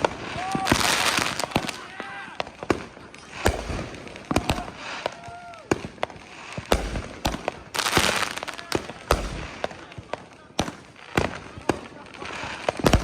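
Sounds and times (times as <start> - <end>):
fireworks bangs: 0.0 - 13.0
hissing crackle of fireworks: 0.0 - 13.0.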